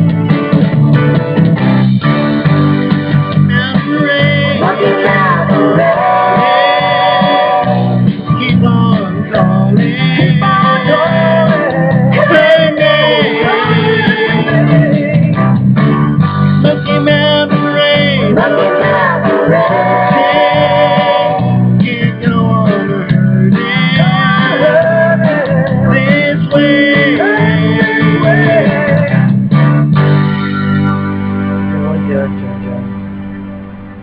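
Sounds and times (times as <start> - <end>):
country karaoke backing music: 0.0 - 34.0.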